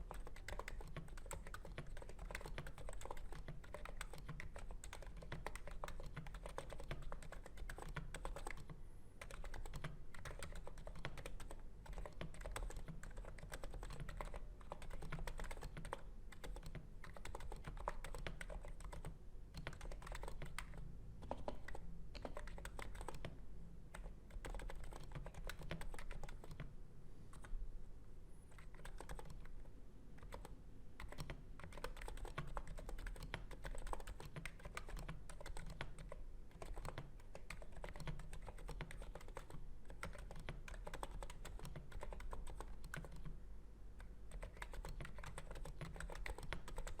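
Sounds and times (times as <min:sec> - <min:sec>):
keyboard typing: 0:00.0 - 0:26.7, 0:27.3 - 0:27.6, 0:28.5 - 0:29.6, 0:30.2 - 0:43.4, 0:44.0 - 0:47.0.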